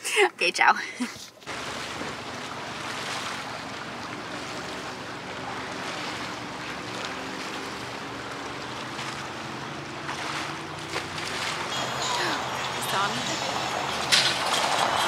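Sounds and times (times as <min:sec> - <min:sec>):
wind: 0:00.0 - 0:15.0
lake waves: 0:01.0 - 0:15.0.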